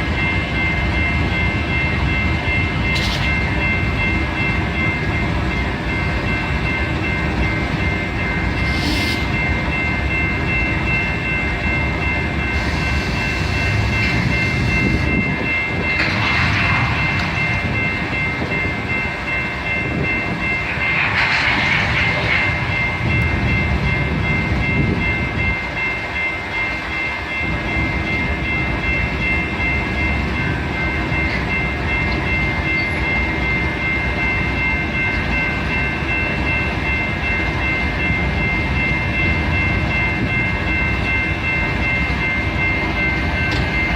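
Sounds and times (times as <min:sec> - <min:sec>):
train wheels rumbling: 0:00.0 - 0:43.9.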